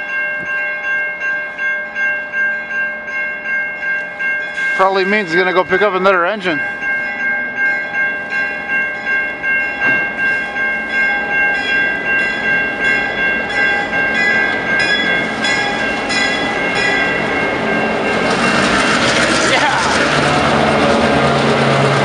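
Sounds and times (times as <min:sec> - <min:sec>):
diesel locomotive and wheels passing: 0:00.0 - 0:22.0
locomotive bell ringing: 0:00.0 - 0:22.0.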